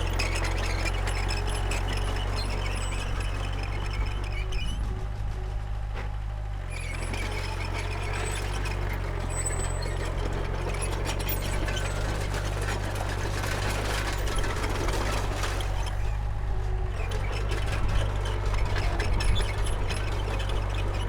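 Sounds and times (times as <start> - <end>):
rattling and clanking: 0.0 - 5.2, 6.8 - 16.2, 17.0 - 21.0
bulldozer diesel engine running: 0.0 - 21.0.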